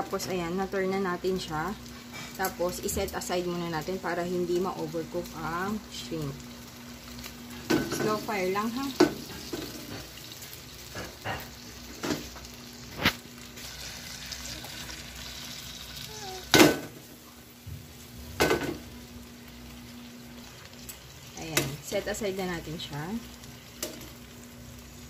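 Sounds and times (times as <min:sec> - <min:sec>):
shrimp sizzling in oil: 0:00.0 - 0:25.0.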